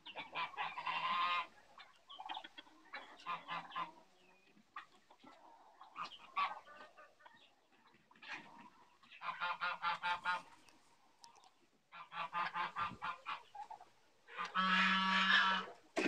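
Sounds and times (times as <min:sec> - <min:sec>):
poultry calling: 0:00.0 - 0:16.0.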